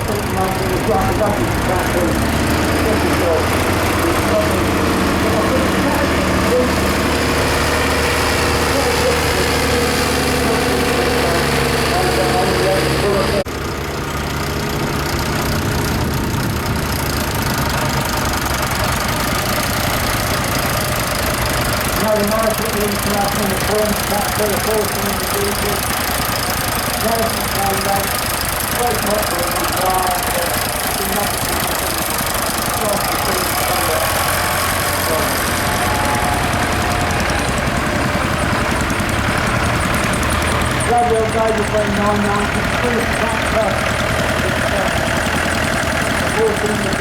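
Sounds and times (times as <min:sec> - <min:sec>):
tractor engine chugging: 0:00.0 - 0:47.0.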